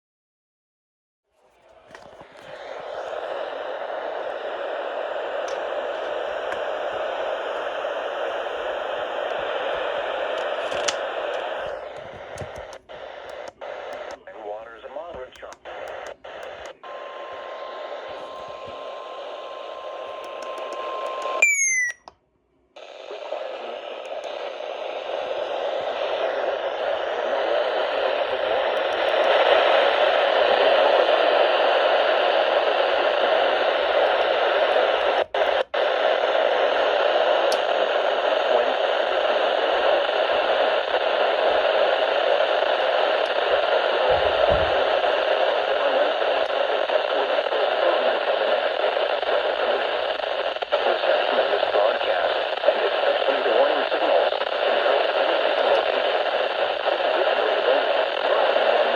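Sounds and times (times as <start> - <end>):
radio static hiss: 1.4 - 21.9, 22.8 - 58.9
steady radio tone: 1.5 - 22.1, 22.8 - 58.9
radio click: 1.5 - 22.2, 22.8 - 58.9.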